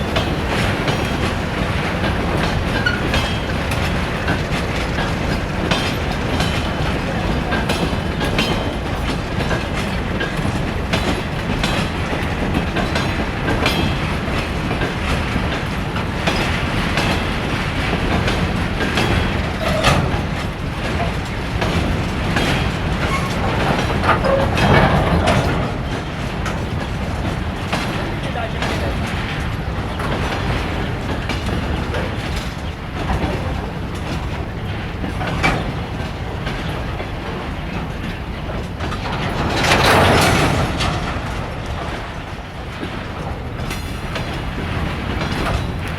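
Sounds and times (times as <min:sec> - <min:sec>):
train rumbling on track: 0:00.0 - 0:45.9
wheels clicking over rail joints: 0:00.0 - 0:45.9.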